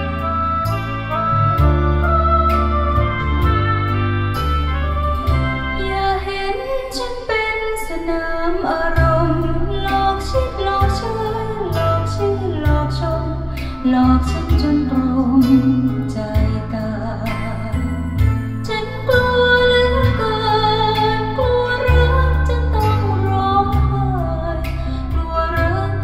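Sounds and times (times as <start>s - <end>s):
song with singer and deep bass: 0.0s - 26.0s.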